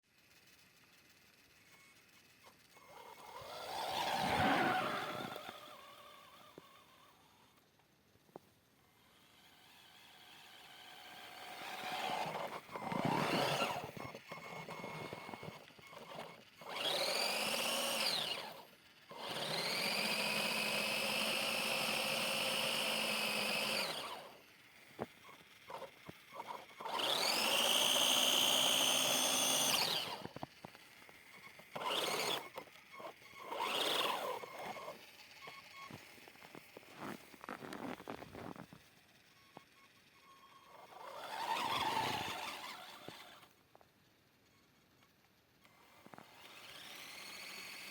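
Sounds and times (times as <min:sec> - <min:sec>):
rc car electric motor whining: 0:00.2 - 0:08.0, 0:08.7 - 0:47.9.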